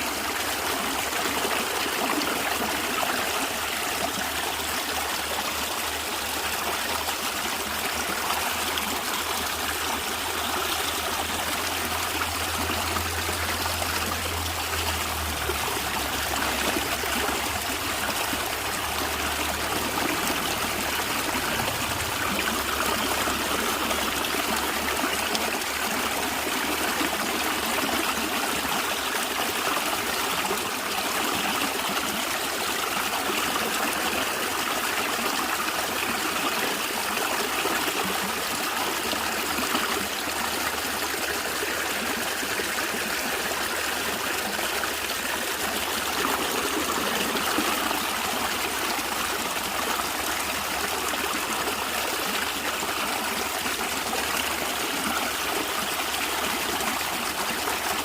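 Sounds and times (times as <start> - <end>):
stream water gurgling: 0.0 - 58.0.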